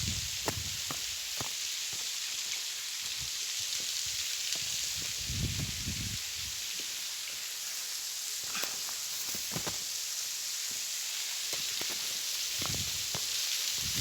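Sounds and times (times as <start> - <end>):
falling water hissing: 0.0 - 14.0.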